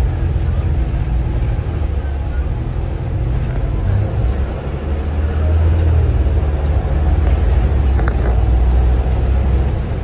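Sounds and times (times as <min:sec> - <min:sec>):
bus diesel engine drone: 0:00.0 - 0:10.0
road noise: 0:00.0 - 0:10.0.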